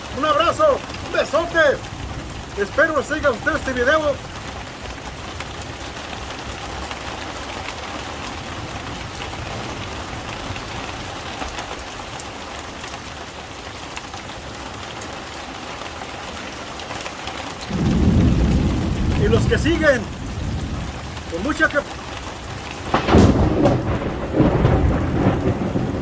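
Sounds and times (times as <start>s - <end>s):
heavy rain falling: 0.0s - 26.0s
raindrops ticking nearby: 0.0s - 26.0s.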